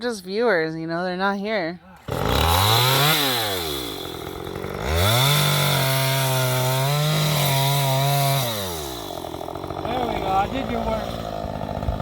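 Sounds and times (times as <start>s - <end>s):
chainsaw revving and cutting log: 2.0s - 12.0s.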